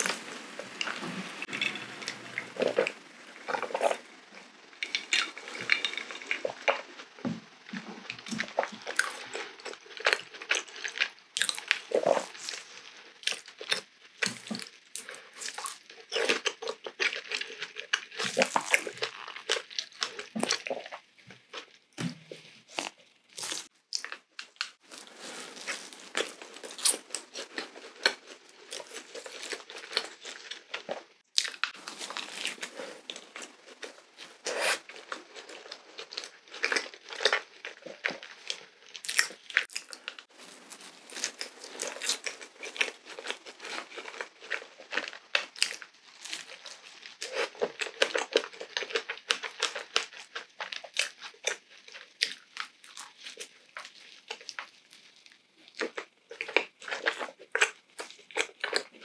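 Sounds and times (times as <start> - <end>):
chewing with mouth clicks: 0.0 - 59.0.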